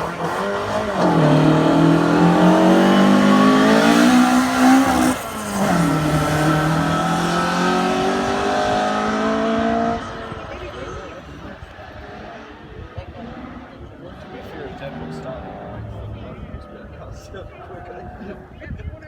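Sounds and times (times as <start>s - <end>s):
rally car engine pulling hard: 0.0s - 16.9s.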